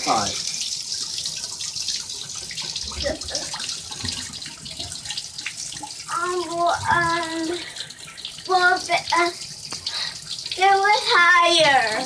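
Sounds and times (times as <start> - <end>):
water running from tub spout: 0.0 - 12.0.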